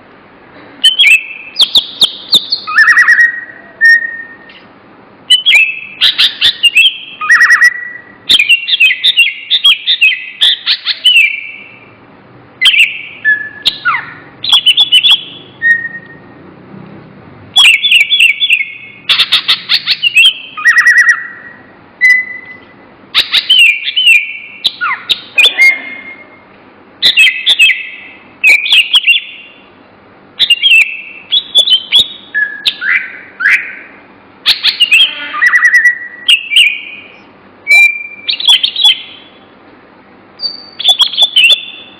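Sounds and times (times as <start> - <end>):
songbird chirping and whistling: 0.8 - 12.0, 12.6 - 16.4, 17.5 - 29.7, 30.4 - 39.5, 40.4 - 41.9.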